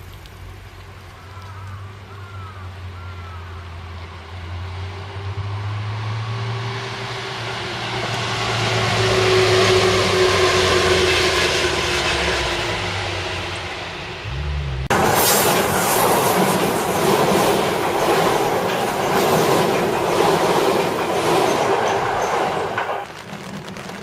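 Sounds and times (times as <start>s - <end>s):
electric train passing: 2.3s - 24.0s.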